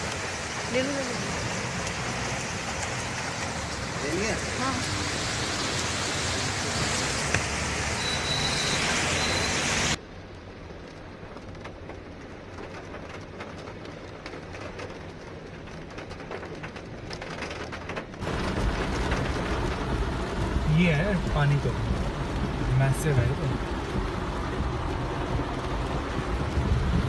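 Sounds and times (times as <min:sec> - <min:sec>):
heavy rain falling: 0:00.0 - 0:27.0
rain patter with drop ticks: 0:00.0 - 0:27.0.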